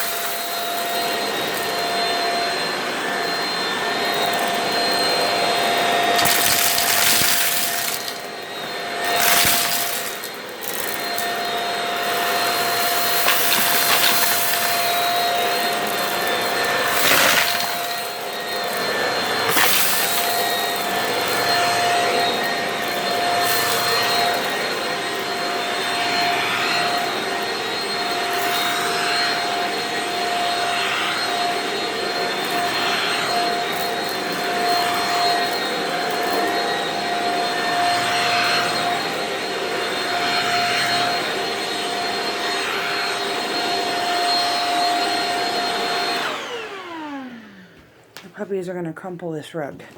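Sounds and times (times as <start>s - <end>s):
vacuum cleaner running on carpet: 0.0s - 48.1s.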